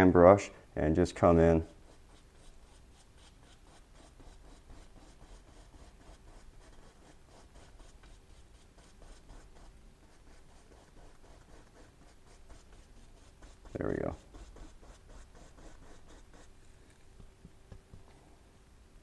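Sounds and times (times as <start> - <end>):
paintbrush stroking on canvas: 1.6 - 17.2.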